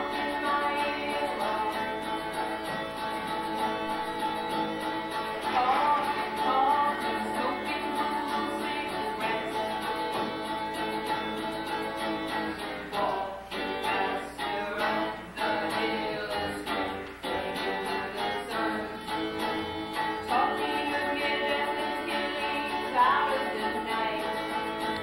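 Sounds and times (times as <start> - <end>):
person singing: 0.0 - 4.4, 5.1 - 25.0.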